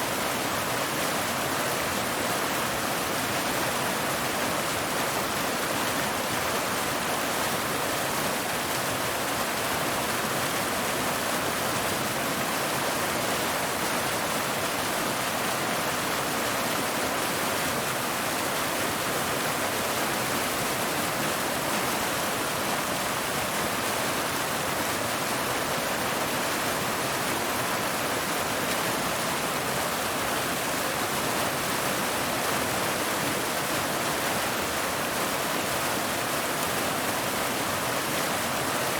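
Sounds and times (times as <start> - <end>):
water falling over rocks: 0.0 - 38.9.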